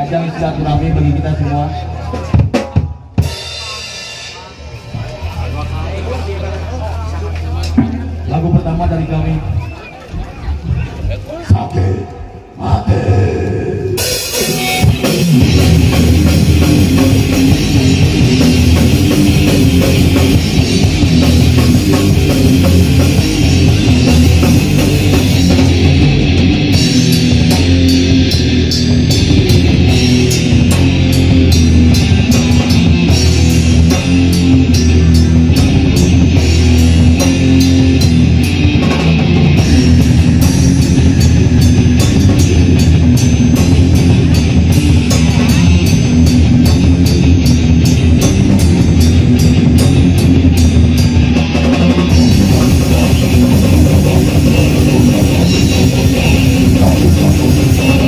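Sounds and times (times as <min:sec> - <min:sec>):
distorted electric guitars: 0:00.0 - 0:58.0
drum kit: 0:01.9 - 0:06.3, 0:13.9 - 0:58.0.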